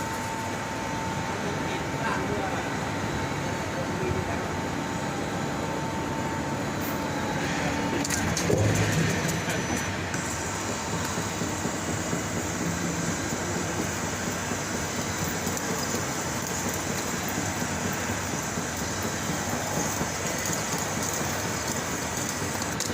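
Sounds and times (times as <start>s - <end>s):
planing machine running: 1.3s - 22.9s.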